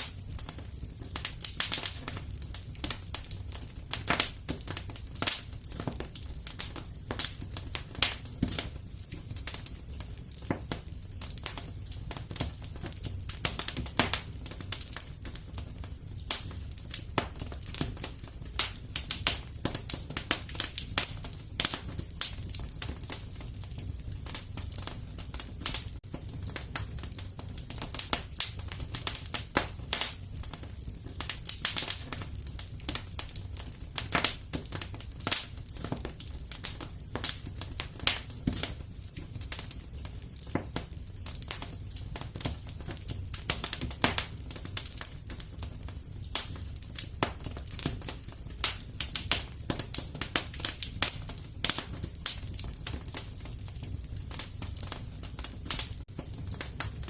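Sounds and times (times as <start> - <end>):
fireplace fire crackling: 0.0 - 57.0
low rumble of flames: 0.0 - 57.0.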